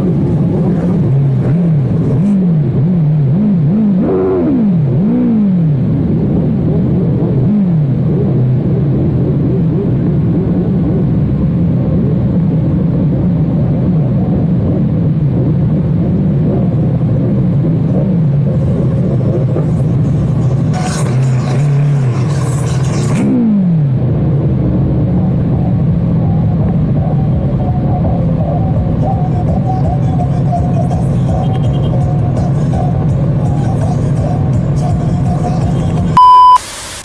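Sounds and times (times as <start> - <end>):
motorcycle engine revving: 0.0 - 36.2.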